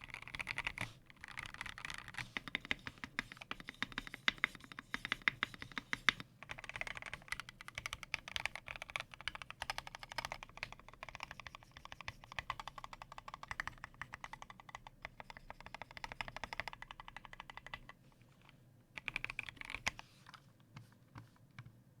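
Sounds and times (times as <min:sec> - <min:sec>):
mechanical keyboard typing: 0:00.0 - 0:18.0, 0:19.0 - 0:20.4.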